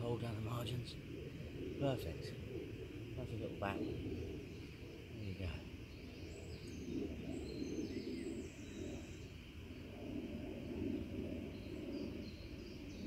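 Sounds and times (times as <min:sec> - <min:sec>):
low rumbling noise: 0:00.0 - 0:13.0
songbirds chirping: 0:00.0 - 0:13.0.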